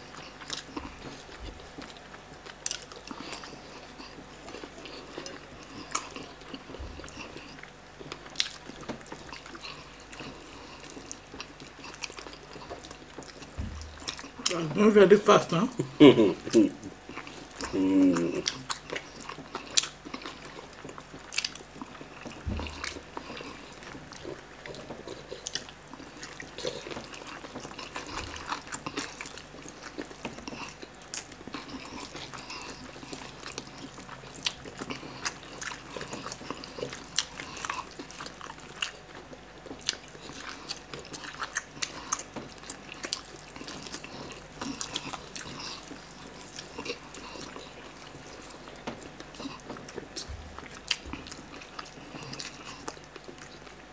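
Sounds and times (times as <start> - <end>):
people chewing food: 0.0 - 53.9.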